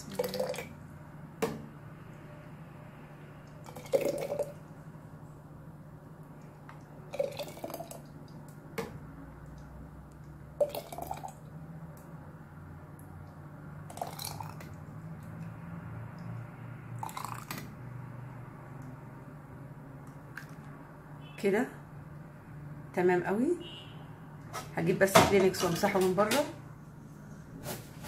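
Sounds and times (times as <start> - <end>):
low steady hum: 0.0 - 24.5.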